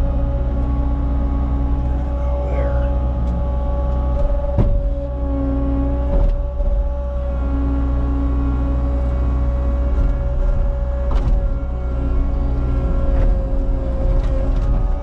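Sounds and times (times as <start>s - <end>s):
diesel engine running with high whine: 0.0s - 15.0s.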